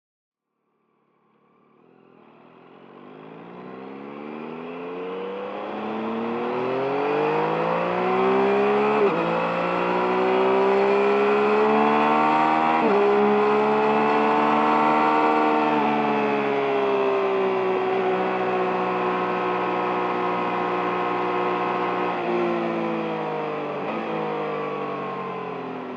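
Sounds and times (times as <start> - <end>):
motorcycle engine accelerating: 1.5 - 25.9.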